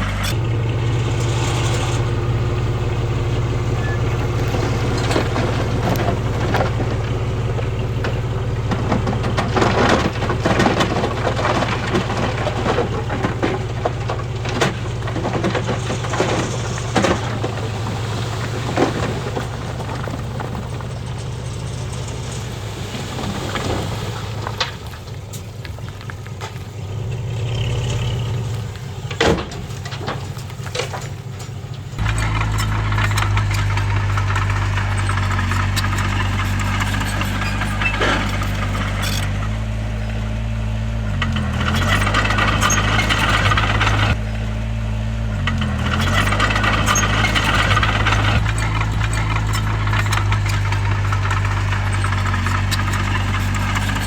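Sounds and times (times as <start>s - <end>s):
heavy machinery diesel engine: 0.0s - 54.0s
metal clanks and rattles: 0.0s - 54.0s.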